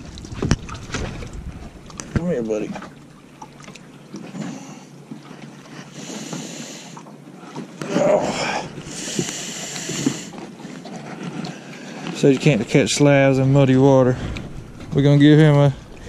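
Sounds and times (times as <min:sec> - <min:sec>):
water noise: 0:00.0 - 0:16.0
wind: 0:00.0 - 0:16.0.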